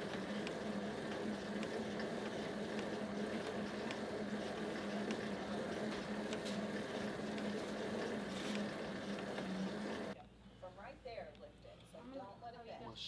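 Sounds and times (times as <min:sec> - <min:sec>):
flywheel whirring hum: 0:00.0 - 0:10.8.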